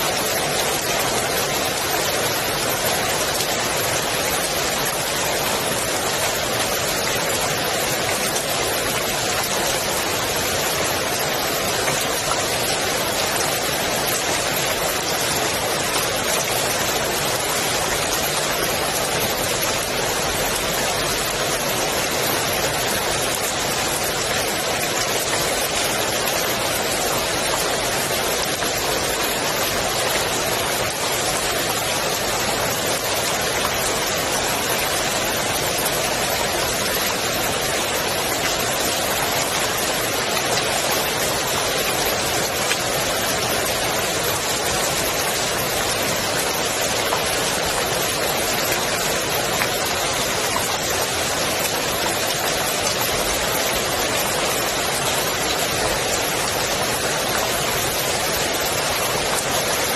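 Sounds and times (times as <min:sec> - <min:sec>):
rain falling on pool water: 0:00.0 - 0:59.9.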